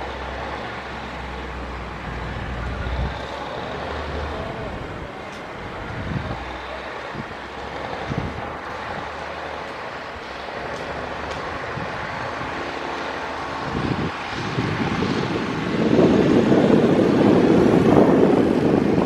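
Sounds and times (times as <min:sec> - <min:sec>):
heavy machinery running: 0:00.0 - 0:19.0.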